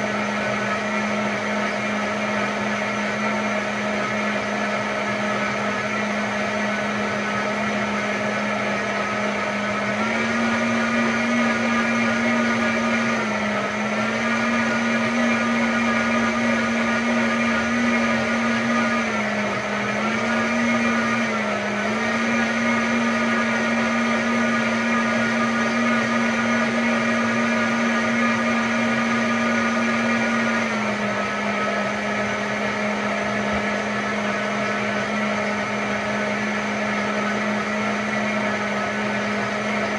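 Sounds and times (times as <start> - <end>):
blender motor running: 0.0 - 39.9.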